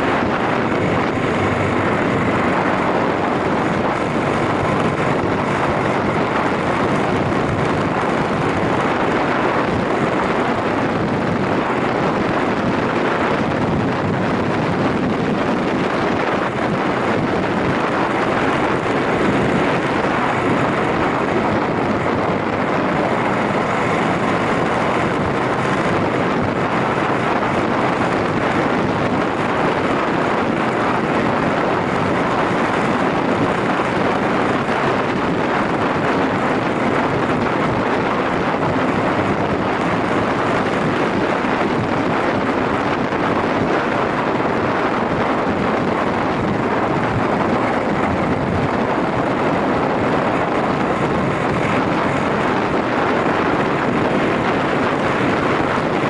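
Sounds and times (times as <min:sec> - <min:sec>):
motorcycle engine running: 0:00.0 - 0:56.0
road noise: 0:00.0 - 0:56.0
wind rushing over microphone: 0:00.0 - 0:56.0.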